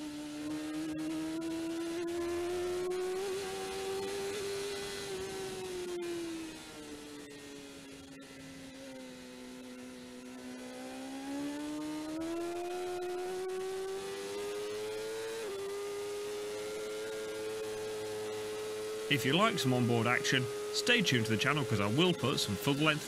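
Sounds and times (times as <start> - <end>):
motorcycle engine at racing speed: 0.0 - 23.0.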